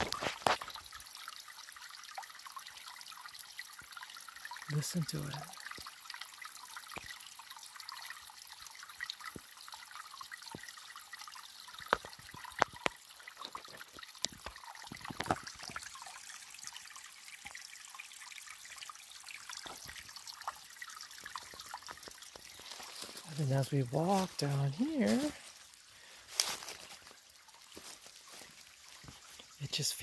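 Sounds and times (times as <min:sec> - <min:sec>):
water trickling into pond: 0:00.0 - 0:30.0.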